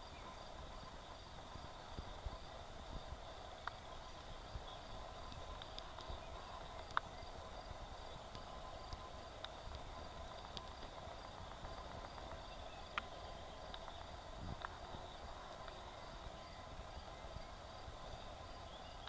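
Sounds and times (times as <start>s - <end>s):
insects chirping: 0.0s - 19.0s
steady hiss: 0.0s - 19.0s.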